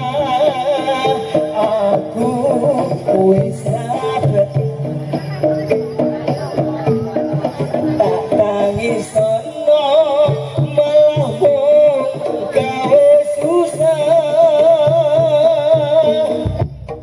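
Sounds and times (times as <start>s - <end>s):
metallophone notes: 0.0s - 17.0s.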